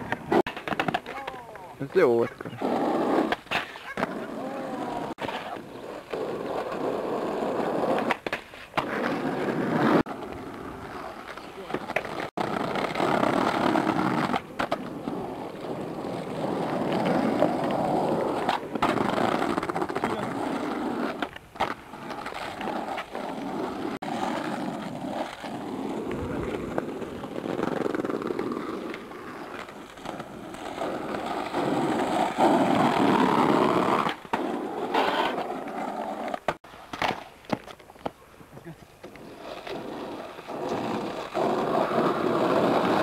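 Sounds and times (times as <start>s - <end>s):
crackly tape noise: 0.0s - 2.6s, 9.8s - 43.0s
skateboard wheels rolling on asphalt: 0.0s - 43.0s.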